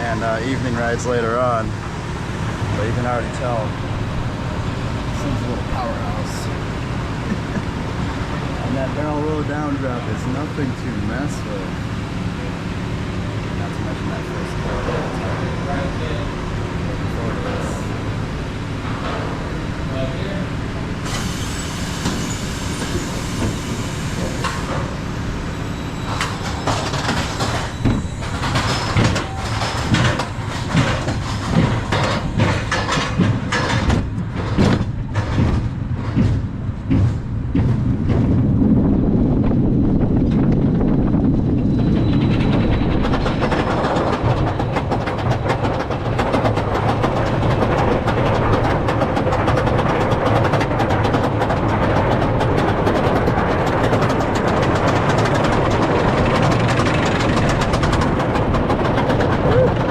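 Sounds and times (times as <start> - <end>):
roller coaster lift hill clacks: 0.0 - 21.3, 21.9 - 25.2, 26.0 - 59.9
roller coaster wheels rushing on rail: 0.0 - 59.9.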